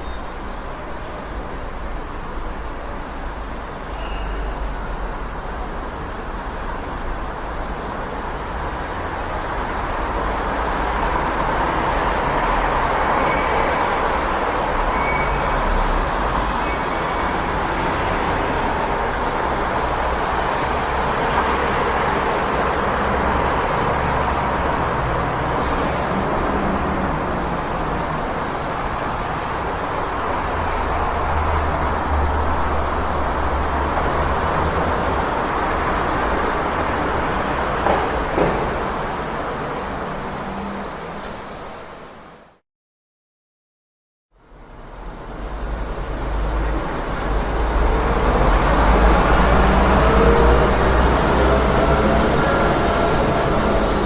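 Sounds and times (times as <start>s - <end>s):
passing traffic: 0.0s - 42.6s, 44.4s - 54.0s.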